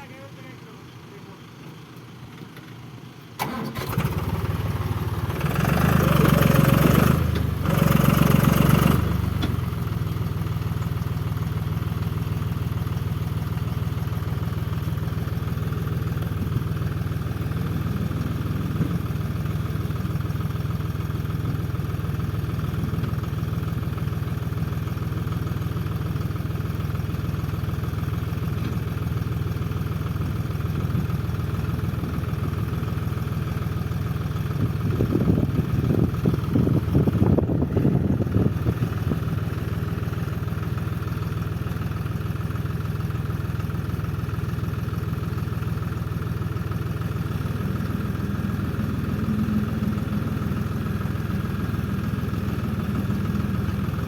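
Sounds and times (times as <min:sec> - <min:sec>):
tractor engine starting and idling: 0:00.0 - 0:54.0.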